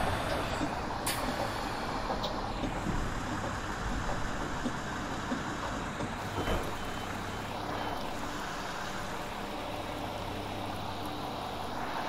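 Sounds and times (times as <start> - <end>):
train engine rumble: 0.0 - 12.0.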